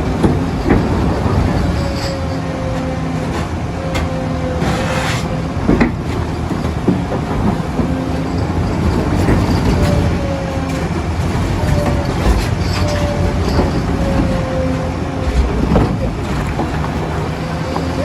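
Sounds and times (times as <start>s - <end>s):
diesel engine under load: 0.0s - 18.0s
hydraulic whine: 0.0s - 18.0s.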